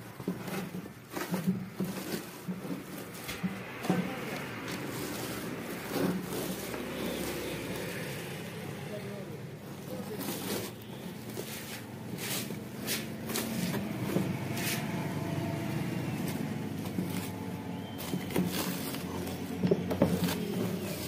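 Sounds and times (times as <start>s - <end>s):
low mechanical hum: 0.0s - 21.0s
puffed rice crunching under rolling pin: 0.0s - 21.0s.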